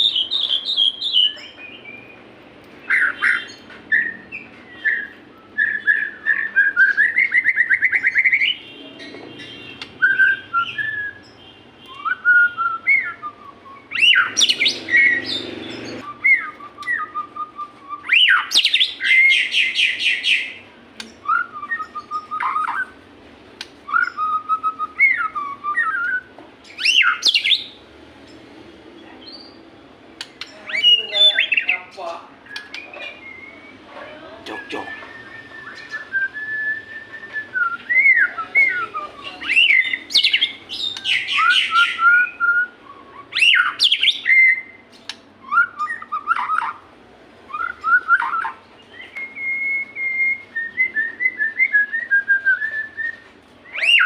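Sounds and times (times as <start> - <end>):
songbird whistles and trills: 0.0 - 8.6, 9.4 - 23.0, 23.7 - 27.8, 32.4 - 33.9, 34.5 - 46.8, 47.5 - 54.0.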